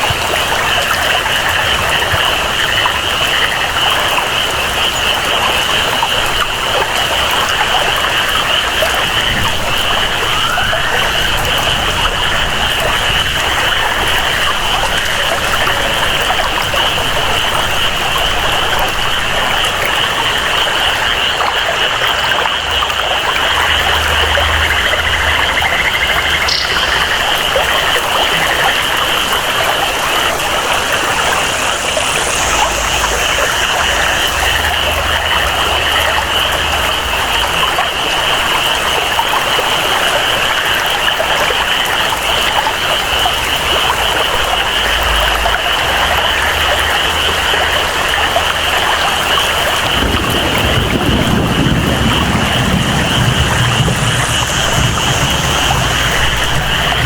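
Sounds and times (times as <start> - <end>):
flowing water: 0.0 - 57.0
frogs and insects chorus: 0.0 - 57.0
rain: 0.0 - 57.0.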